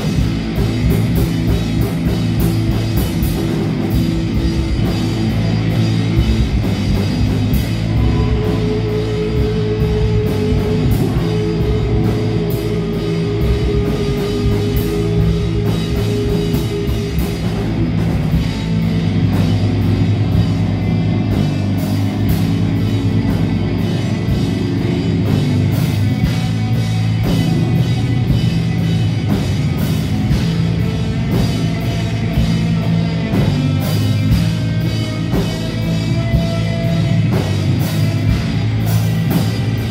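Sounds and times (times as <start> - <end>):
bass guitar: 0.0 - 39.9
drums with cymbal hits: 0.0 - 39.9
electric guitars: 0.0 - 39.9.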